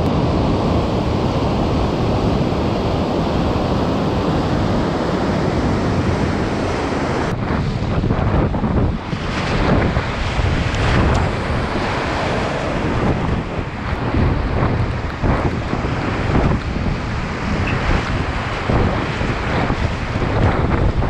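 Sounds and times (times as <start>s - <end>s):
whitewater rushing: 0.0s - 7.4s, 8.0s - 21.0s.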